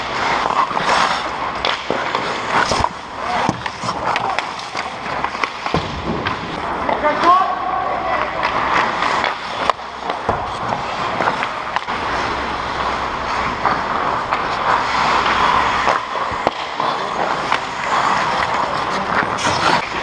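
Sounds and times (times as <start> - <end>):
skate blades scraping ice: 0.0 - 20.0
sticks and puck knocking on ice: 0.2 - 7.4, 8.2 - 20.0.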